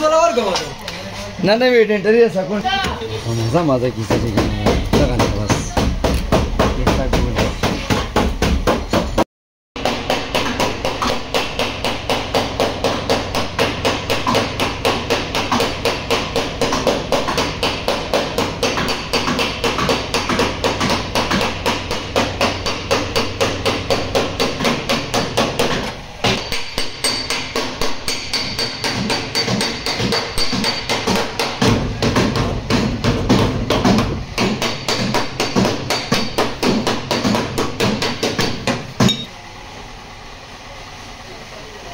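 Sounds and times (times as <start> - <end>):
hammer tapping on steel panel: 4.1 - 9.2, 9.8 - 39.3.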